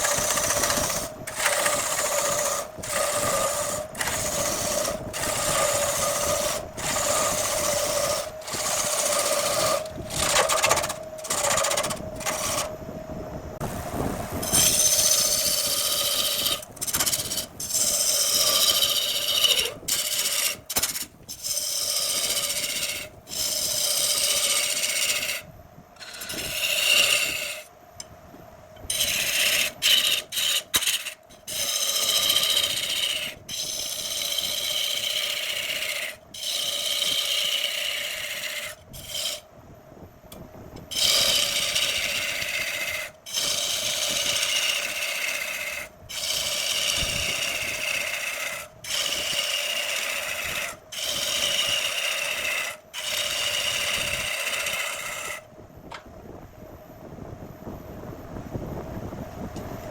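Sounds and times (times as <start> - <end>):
lathe humming: 0.0 - 12.8, 13.6 - 27.7, 28.9 - 39.4, 40.8 - 55.4
tool scraping spinning wood: 0.0 - 12.8, 14.3 - 27.7, 28.8 - 39.5, 40.8 - 56.0.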